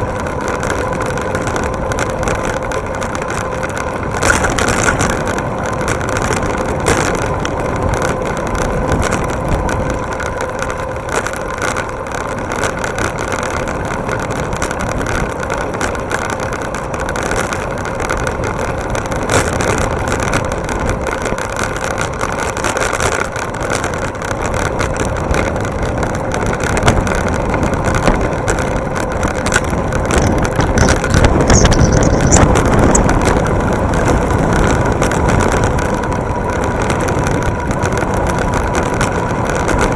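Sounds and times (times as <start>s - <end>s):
faint steady whine: 0.0s - 39.9s
tyre and road noise: 0.0s - 39.9s
wind rush: 0.0s - 39.9s.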